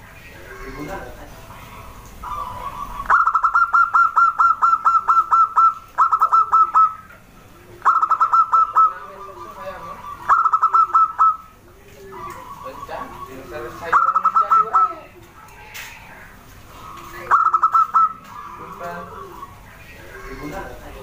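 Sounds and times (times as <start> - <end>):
dove calling in clipped notes: 0.4 - 21.0.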